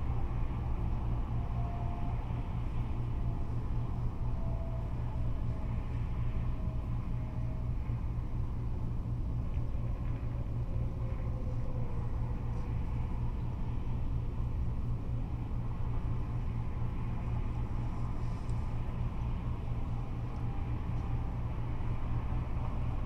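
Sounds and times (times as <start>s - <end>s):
freeway traffic rumble: 0.0s - 23.0s.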